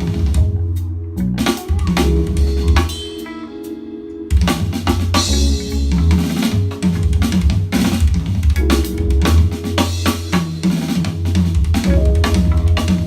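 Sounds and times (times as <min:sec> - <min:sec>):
drum-heavy music with bass: 0:00.0 - 0:03.7, 0:04.3 - 0:13.0.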